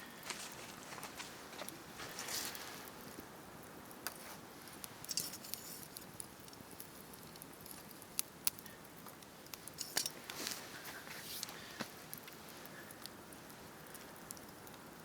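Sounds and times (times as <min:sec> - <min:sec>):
campfire crackling: 0:00.0 - 0:15.0
fire hissing: 0:00.0 - 0:15.0.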